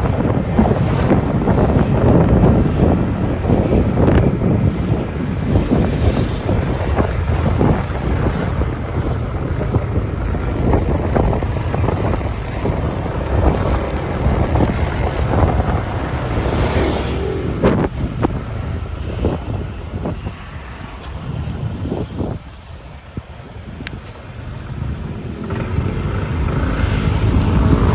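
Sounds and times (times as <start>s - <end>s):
low vehicle rumble: 0.0s - 27.9s
wind buffeting microphone: 0.0s - 27.9s.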